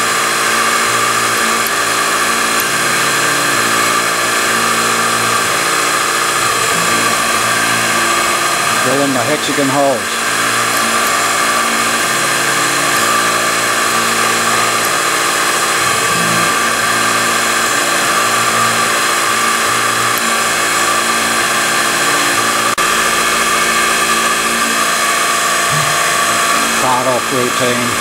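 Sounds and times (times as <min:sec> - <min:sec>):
milling machine spindle whine: 0:00.0 - 0:28.0.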